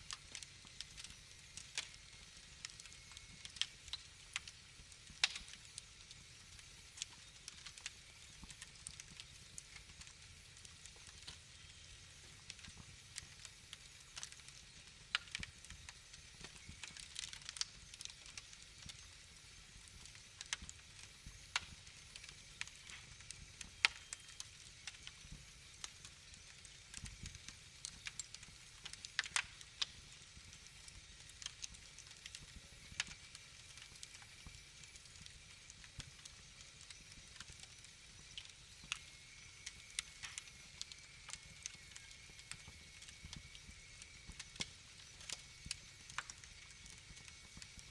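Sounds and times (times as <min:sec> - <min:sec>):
faint steady hiss: 0:00.0 - 0:47.9
fire crackling and popping: 0:00.0 - 0:47.9.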